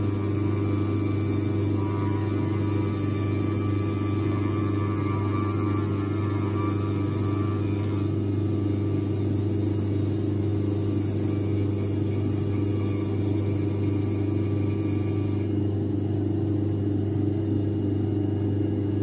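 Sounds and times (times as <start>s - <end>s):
machine motor humming: 0.0s - 16.2s.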